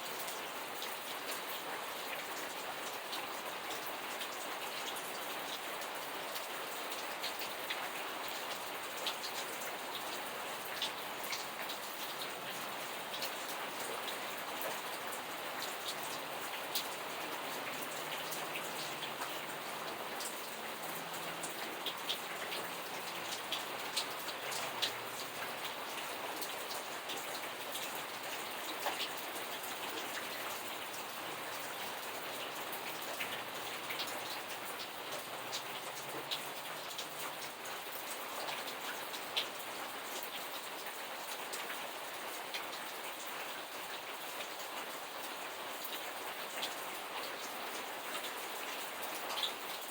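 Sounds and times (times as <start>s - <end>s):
steady rainfall: 0.0s - 49.9s.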